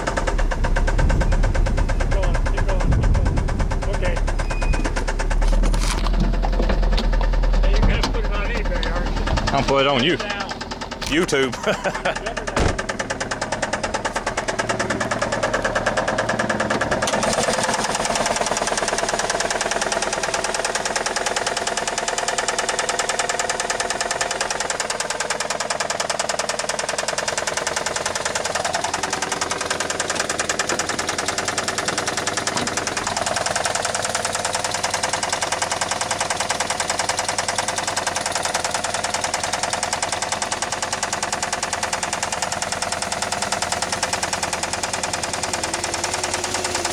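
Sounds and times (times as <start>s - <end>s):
car engine with rapid knock: 0.0s - 46.9s.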